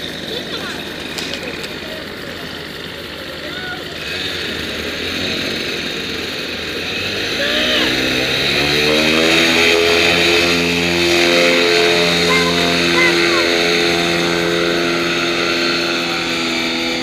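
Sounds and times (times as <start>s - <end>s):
paramotor engine and propeller: 0.0s - 17.0s.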